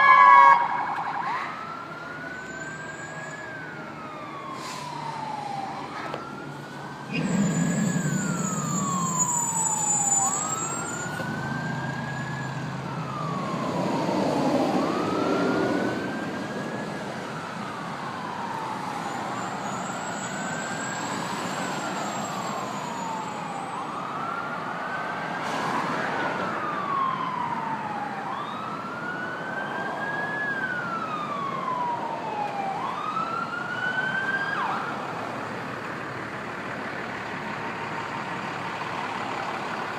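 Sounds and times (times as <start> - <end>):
fire engine siren wailing: 0.0 - 39.9
road and engine noise: 0.0 - 39.9.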